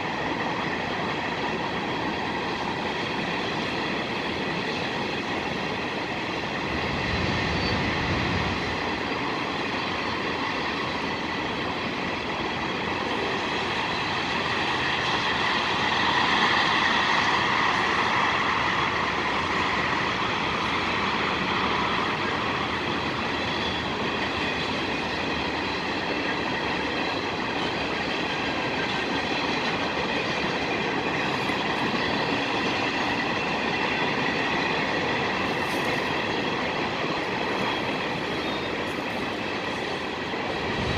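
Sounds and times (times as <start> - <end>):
train rumble and rattle: 0.0 - 40.9.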